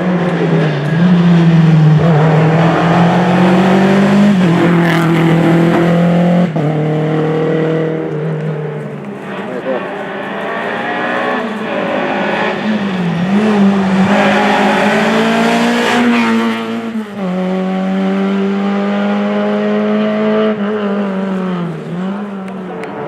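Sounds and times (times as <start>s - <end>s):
rally car engine running hard: 0.0s - 23.0s.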